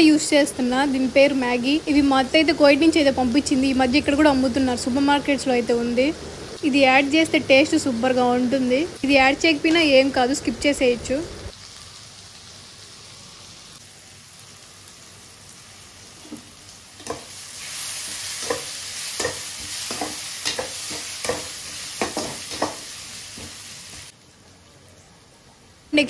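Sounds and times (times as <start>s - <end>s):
vegetables sizzling in oil: 0.0s - 24.4s.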